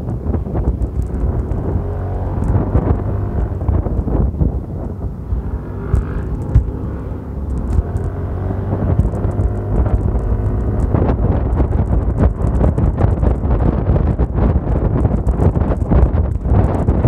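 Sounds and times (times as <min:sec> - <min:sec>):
wind buffeting microphone: 0:00.0 - 0:17.0
scooter engine accelerating: 0:00.2 - 0:17.0.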